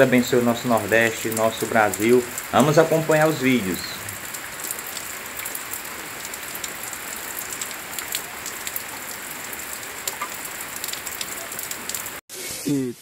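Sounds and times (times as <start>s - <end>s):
close raindrops ticking: 0.0s - 12.2s
steady rain hiss: 0.0s - 13.0s.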